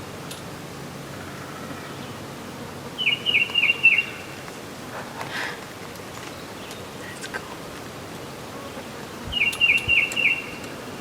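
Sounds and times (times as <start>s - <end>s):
outdoor background hiss: 0.0s - 11.0s
songbird singing: 0.2s - 11.0s.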